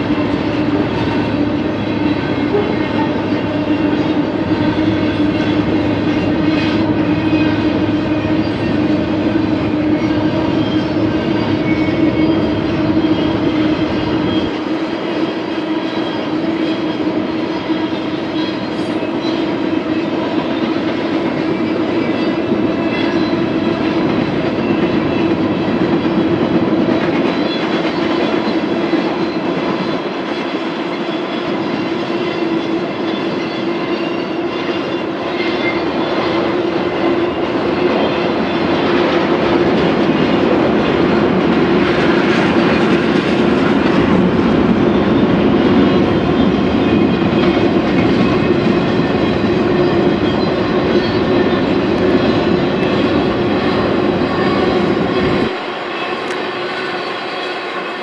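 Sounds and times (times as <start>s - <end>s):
freight train wheels rolling on rails: 0.0s - 58.0s.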